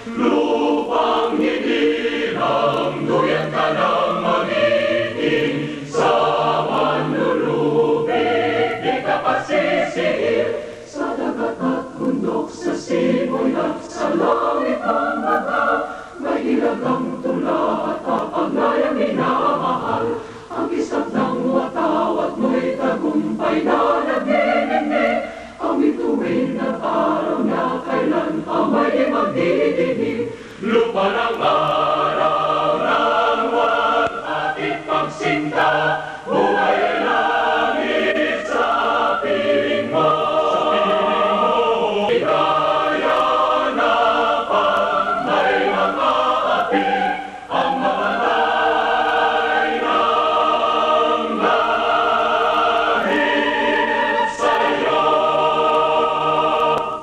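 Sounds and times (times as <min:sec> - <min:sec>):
choir singing held chords: 0:00.0 - 0:57.0.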